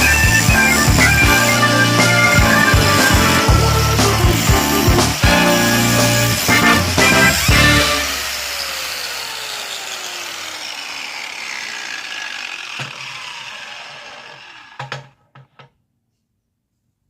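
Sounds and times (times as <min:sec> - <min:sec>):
machine whine spinning down: 0:00.0 - 0:14.8.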